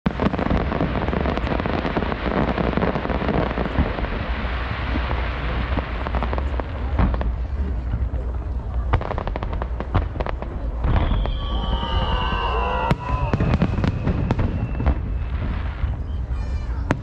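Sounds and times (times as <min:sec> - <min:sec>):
fireworks bangs: 0:00.1 - 0:17.0
fireworks crackling: 0:00.1 - 0:17.0.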